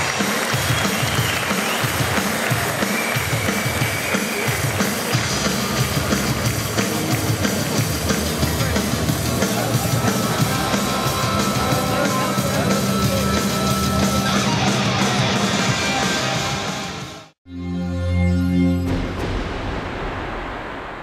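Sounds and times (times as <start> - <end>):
loud rock music: 0.0 - 17.4.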